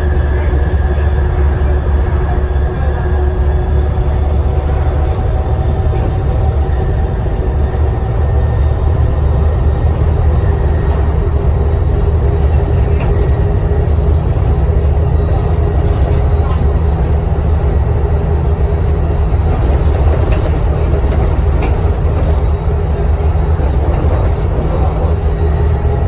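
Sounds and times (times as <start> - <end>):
bus diesel engine droning: 0.0 - 26.0
turbocharger whine: 0.0 - 26.0.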